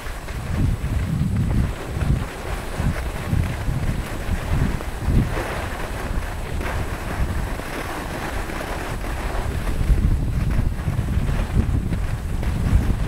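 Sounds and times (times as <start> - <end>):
skis hissing over snow: 0.0 - 13.0
wind buffeting microphone: 0.0 - 13.0.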